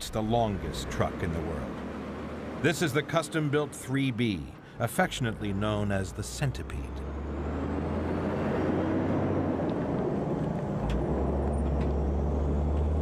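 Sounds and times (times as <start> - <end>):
truck engine and tyres droning: 0.0 - 13.0.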